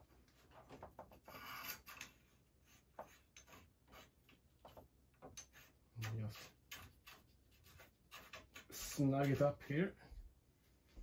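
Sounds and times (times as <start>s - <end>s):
pipe fittings scraping and clicking: 0.0s - 9.8s.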